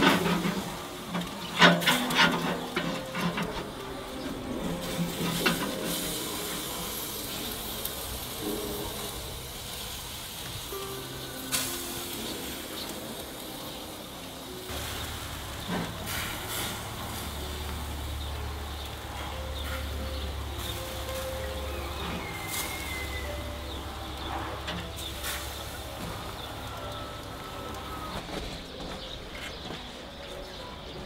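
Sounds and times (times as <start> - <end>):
sharp crackles: 0.0 - 30.3
meat sizzling over charcoal: 0.0 - 31.0
soft background music: 0.0 - 31.0.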